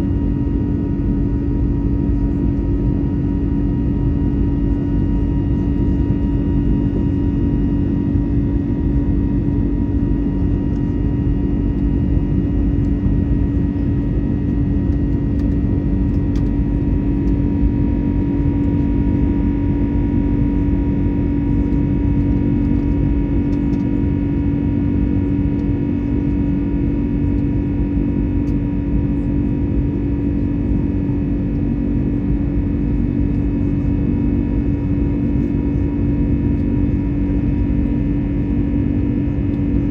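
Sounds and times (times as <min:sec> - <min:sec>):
airplane cabin engine noise: 0:00.0 - 0:39.9.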